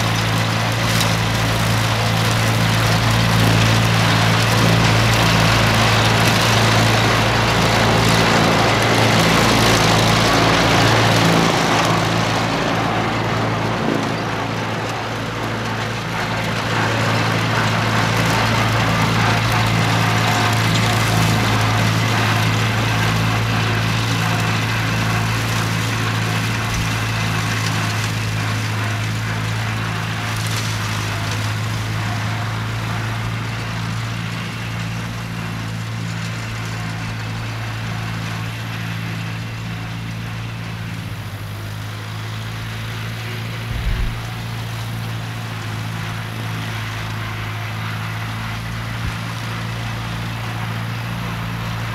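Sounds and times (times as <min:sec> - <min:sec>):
mower chopping grass: 0:00.0 - 0:51.9
tractor engine running: 0:00.0 - 0:51.9.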